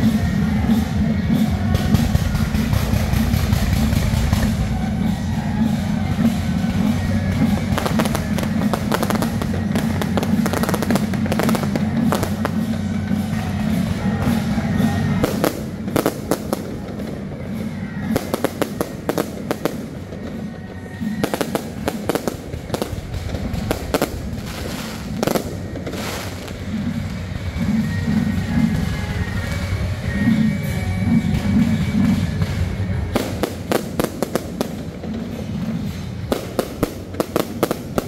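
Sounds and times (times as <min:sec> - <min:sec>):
fireworks bangs and crackles: 0:00.0 - 0:38.0
music playing: 0:00.0 - 0:38.0.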